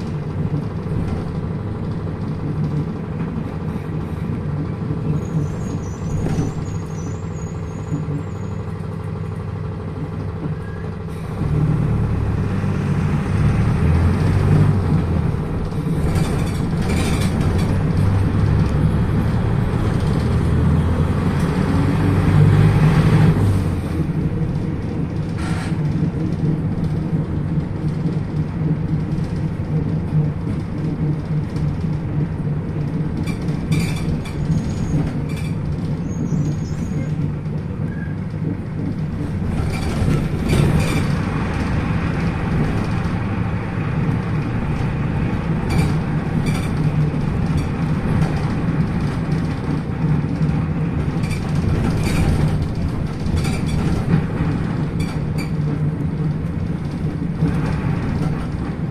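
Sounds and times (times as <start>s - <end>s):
bus body rattling and knocking: 0.0s - 58.9s
bus diesel engine running: 0.0s - 58.9s.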